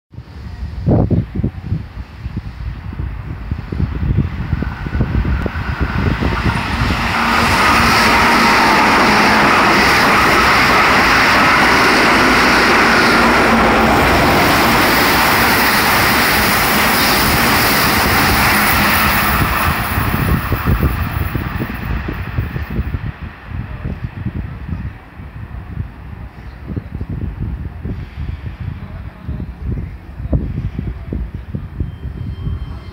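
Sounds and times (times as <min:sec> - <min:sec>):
train rushing through station: 0:00.2 - 0:32.9.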